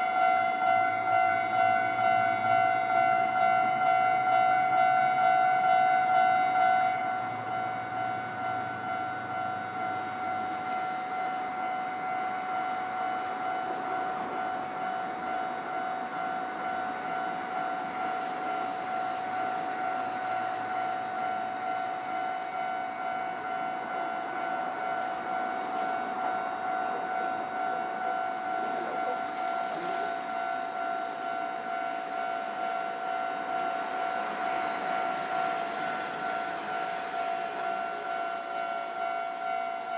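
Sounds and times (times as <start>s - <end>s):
level crossing alarm ringing: 0.0s - 39.9s.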